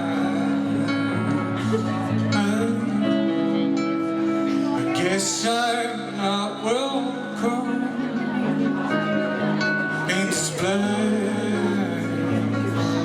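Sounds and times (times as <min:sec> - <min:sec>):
live band with guitar: 0:00.0 - 0:13.0.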